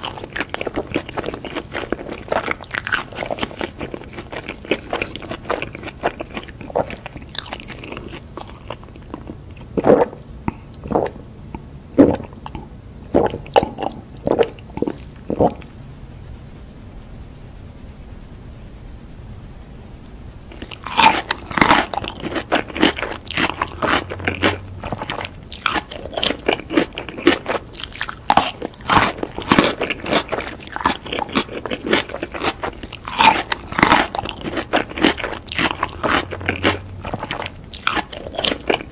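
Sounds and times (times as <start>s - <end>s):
person chewing crunchy food: 0.0s - 15.7s, 20.5s - 38.9s.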